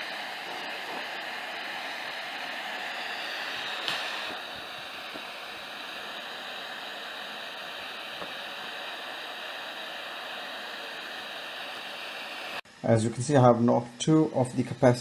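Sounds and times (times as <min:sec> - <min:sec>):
hot air gun hissing: 0:00.0 - 0:12.6
faint high whine: 0:00.0 - 0:15.0.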